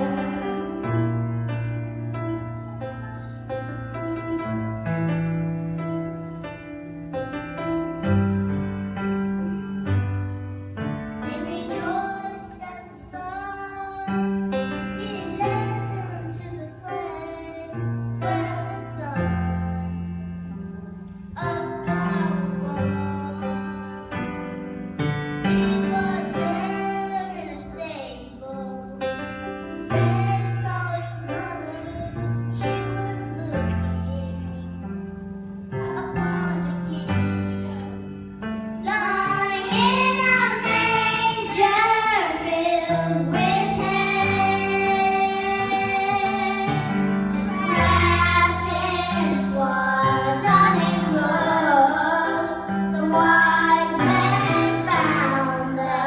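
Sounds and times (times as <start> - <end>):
instrumental accompaniment: 0.0 - 56.0.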